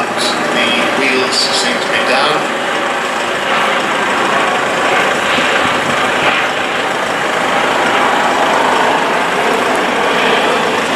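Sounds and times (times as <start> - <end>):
turboprop aircraft engines: 0.0 - 10.9.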